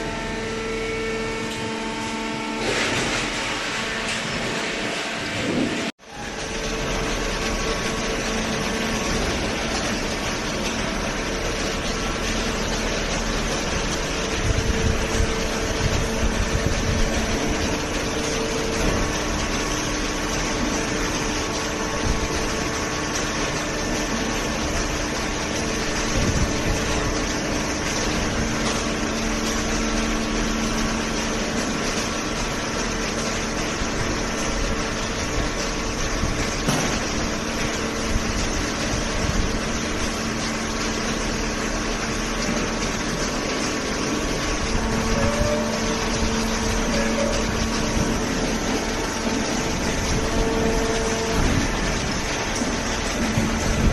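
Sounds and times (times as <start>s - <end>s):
hydraulic power unit humming: 0.0s - 53.9s.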